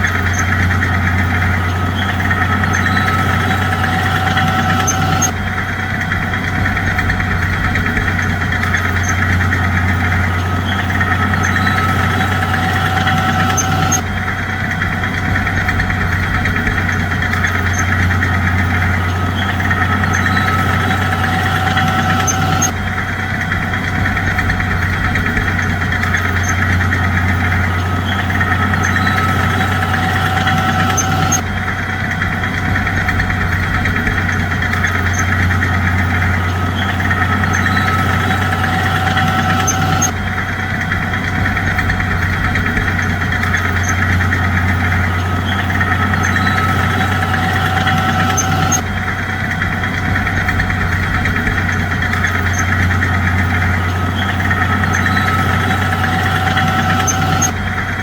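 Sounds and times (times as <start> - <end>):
bulldozer diesel engine humming: 0.0 - 58.0
higher mechanical noise: 0.0 - 58.0.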